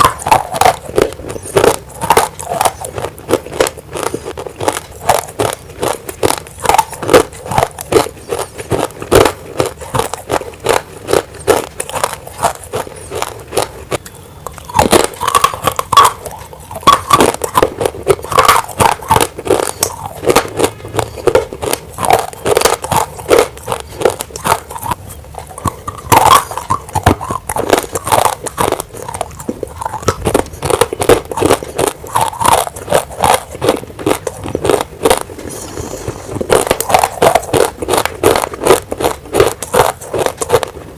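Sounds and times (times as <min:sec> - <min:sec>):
crunching and chewing clay: 0:00.0 - 0:40.9.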